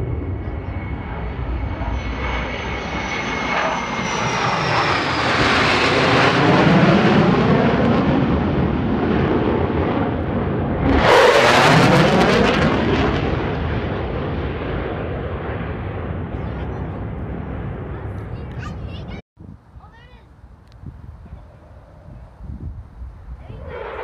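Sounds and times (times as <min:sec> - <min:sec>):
jets flying over roaring: 0:00.0 - 0:19.2, 0:19.9 - 0:24.0.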